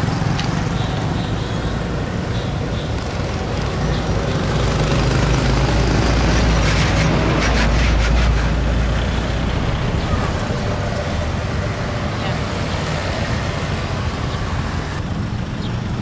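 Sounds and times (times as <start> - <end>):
diesel truck engine rumble: 0.0 - 16.0
road traffic passing: 0.0 - 16.0.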